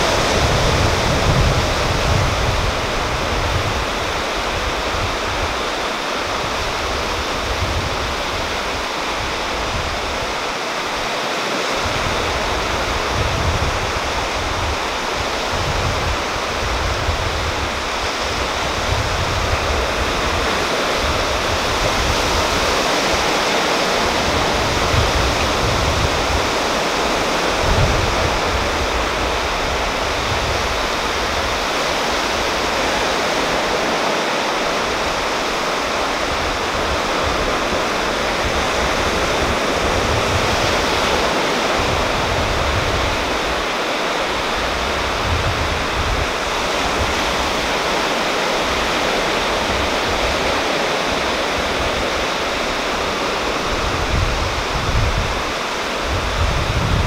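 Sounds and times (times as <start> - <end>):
waves washing onto rocky shore: 0.0 - 57.0
wind rumble on microphone: 0.0 - 57.0.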